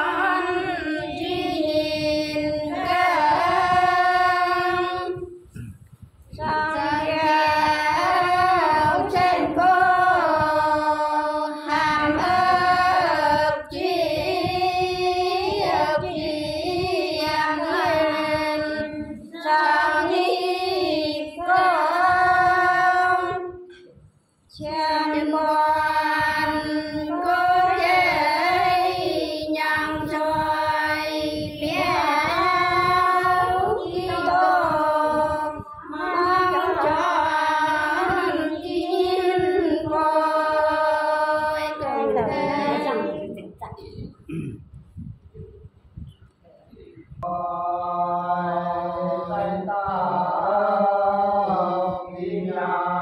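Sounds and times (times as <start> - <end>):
women singing a slow chant: 0.0 - 5.7, 6.3 - 23.9, 24.5 - 43.6, 47.2 - 53.0.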